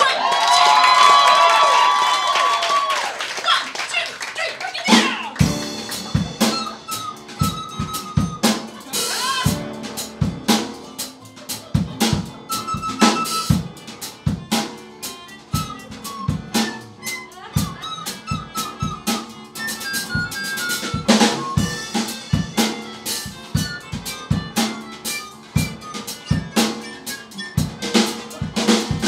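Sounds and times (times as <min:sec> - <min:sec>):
drum kit beat: 0:04.8 - 0:29.0
piano: 0:05.4 - 0:29.0.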